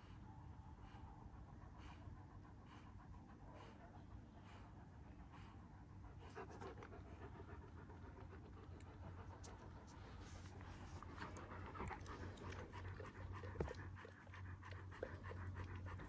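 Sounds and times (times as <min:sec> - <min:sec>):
dog breathing: 0:00.0 - 0:16.0.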